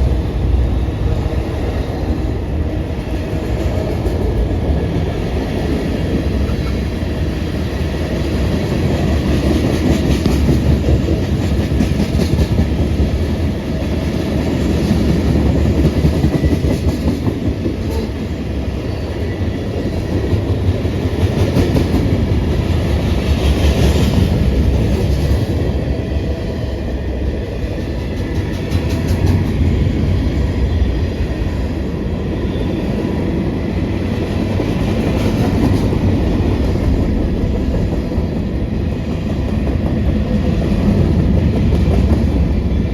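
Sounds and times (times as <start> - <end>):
steel wheels rumbling on rail: 0.0 - 42.9.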